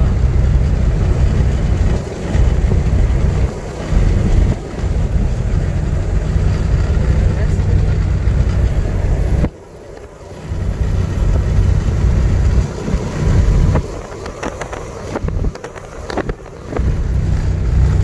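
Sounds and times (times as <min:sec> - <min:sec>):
road and engine rumble: 0:00.0 - 0:18.0
wind on microphone: 0:00.0 - 0:18.0.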